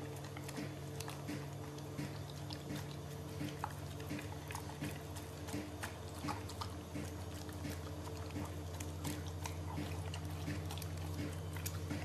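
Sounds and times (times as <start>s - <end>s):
dog eating wet smacking: 0.0s - 12.0s
steady low hum: 0.0s - 12.0s.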